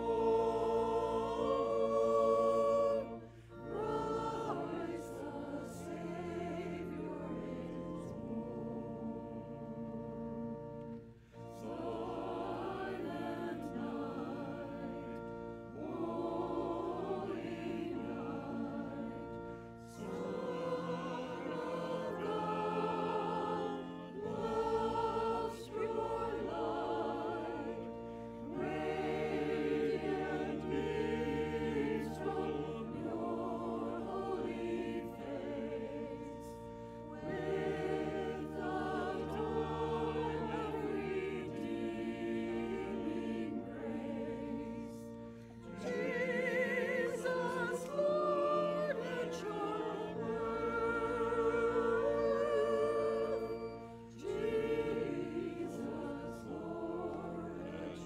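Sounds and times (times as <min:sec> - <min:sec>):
choir and congregation singing hymn: 0:00.0 - 0:58.0
sustained low accompanying notes: 0:00.0 - 0:58.0.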